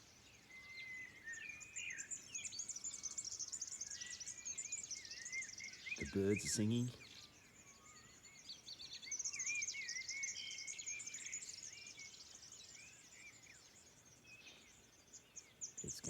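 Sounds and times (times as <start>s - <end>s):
birds singing and chirping: 0.0s - 16.0s.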